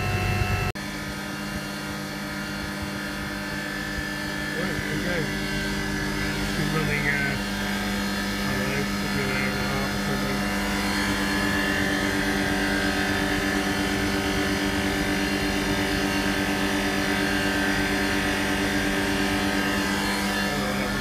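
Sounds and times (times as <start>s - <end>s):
compressor humming: 0.0s - 21.0s
condenser fan turning: 0.0s - 21.0s.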